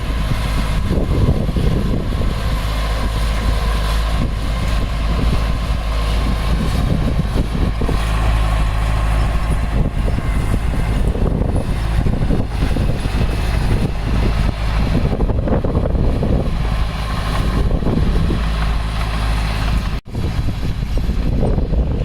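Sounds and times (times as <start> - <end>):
diesel engine deep rumble: 0.0 - 22.0.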